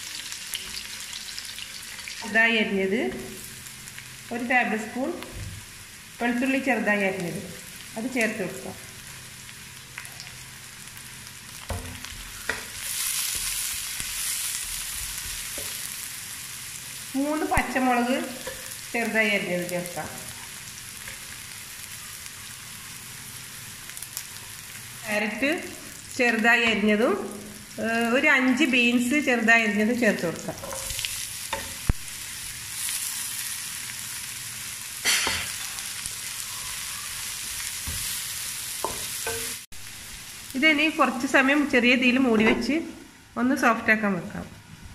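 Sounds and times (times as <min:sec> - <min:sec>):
onion and garlic sizzling: 0:00.0 - 0:44.4.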